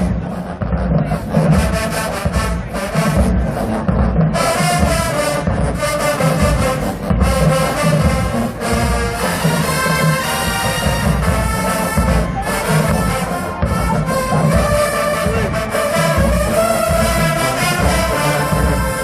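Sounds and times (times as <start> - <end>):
marching band brass playing: 0.0 - 19.0
steady low beat: 0.0 - 19.0.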